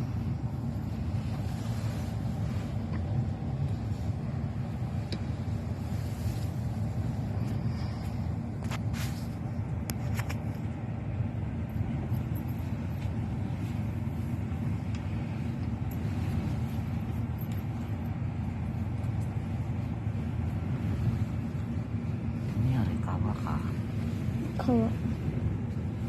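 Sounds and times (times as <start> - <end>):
car rumbling in motion: 0.0 - 26.0.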